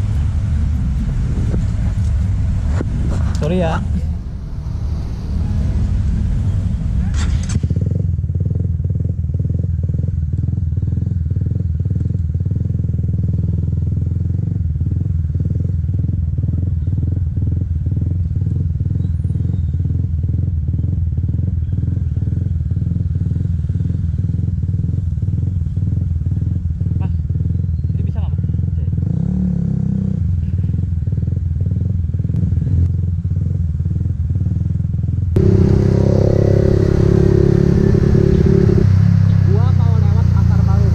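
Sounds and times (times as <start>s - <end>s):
motorcycle engine idling: 6.3s - 29.0s, 30.2s - 40.9s.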